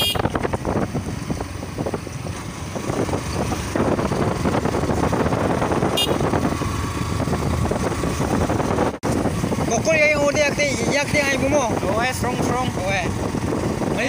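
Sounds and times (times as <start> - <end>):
motorcycle engine running: 0.0 - 14.0
rushing road and air noise: 0.0 - 14.0.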